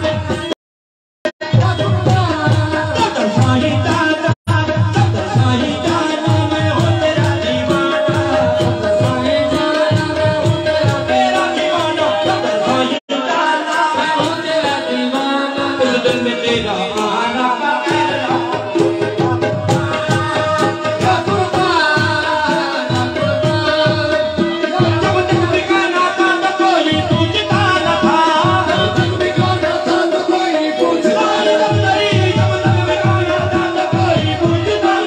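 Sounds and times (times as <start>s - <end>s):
tabla drum rhythm: 0.0s - 0.6s, 1.4s - 35.0s.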